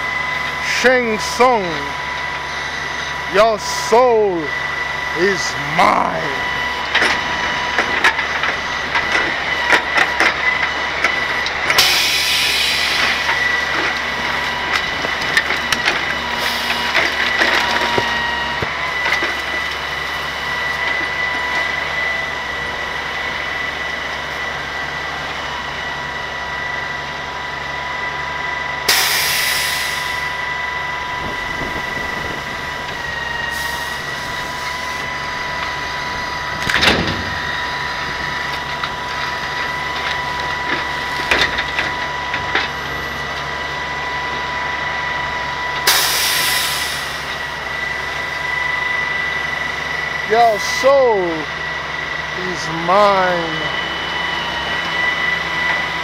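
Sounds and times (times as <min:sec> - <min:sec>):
hydraulic boom whine: 0:00.0 - 0:56.0.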